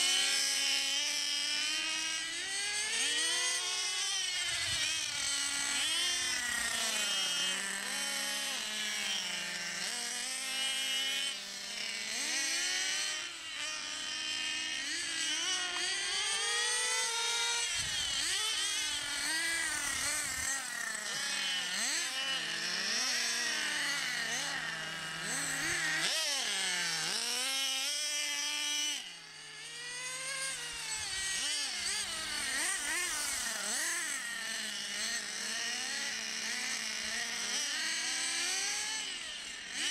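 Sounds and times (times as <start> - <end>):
model car engines revving: 0.0 - 39.9.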